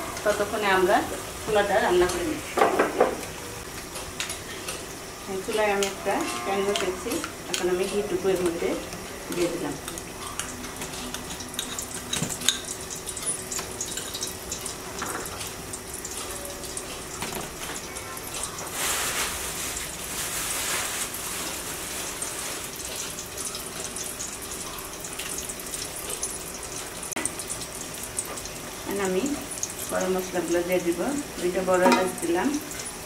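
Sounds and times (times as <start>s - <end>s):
hot ghee hissing and crackling: 0.0s - 33.0s.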